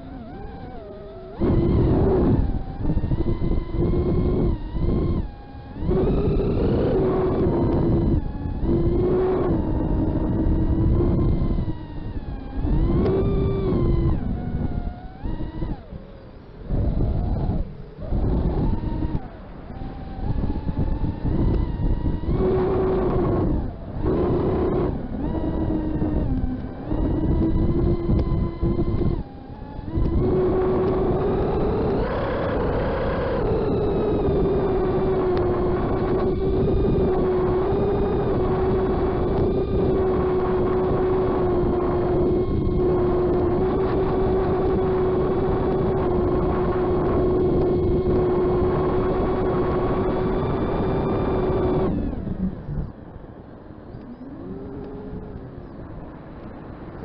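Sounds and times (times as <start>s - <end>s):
buffeting air noise: 0.0s - 57.0s
quadcopter motors whining: 0.0s - 57.0s.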